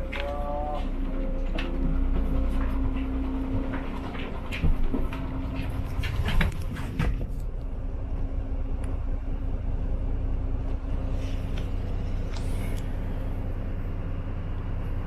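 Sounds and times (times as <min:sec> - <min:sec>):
bus engine and road rumble: 0:00.0 - 0:15.0
faint steady hum: 0:00.0 - 0:15.0.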